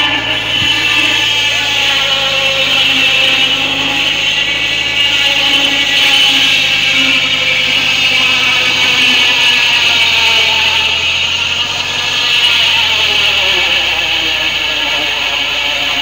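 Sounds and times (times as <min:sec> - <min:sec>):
circular saw cutting log: 0:00.0 - 0:16.0
tractor engine running: 0:00.0 - 0:16.0.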